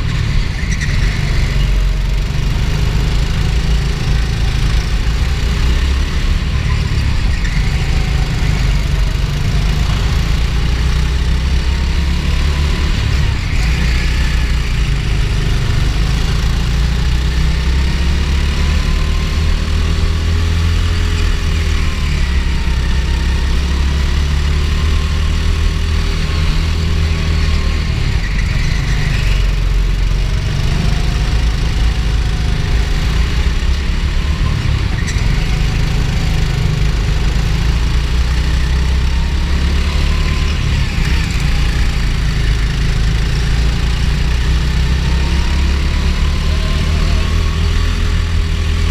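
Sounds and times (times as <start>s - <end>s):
go-kart engine droning: 0.0s - 48.9s.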